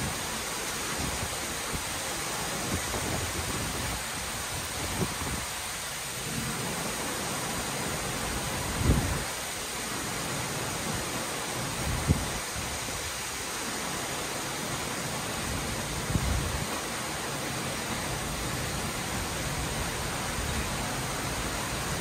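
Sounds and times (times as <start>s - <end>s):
heavy rain hiss: 0.0s - 22.0s.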